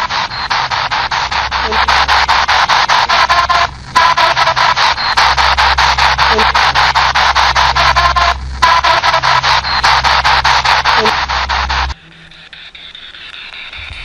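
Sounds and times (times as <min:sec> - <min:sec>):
radio static in rapid bursts: 0:00.0 - 0:12.0.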